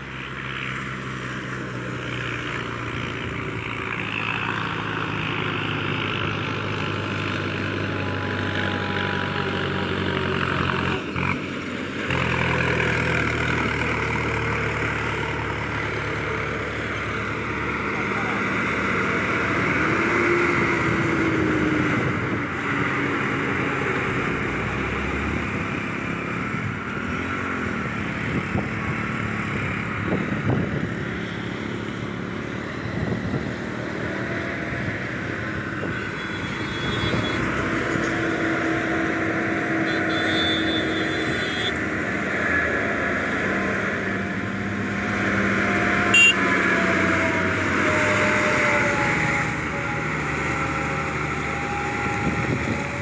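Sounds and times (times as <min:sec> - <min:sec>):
motorcycle passing: 0:00.0 - 0:53.0
trucks driving past: 0:00.0 - 0:53.0.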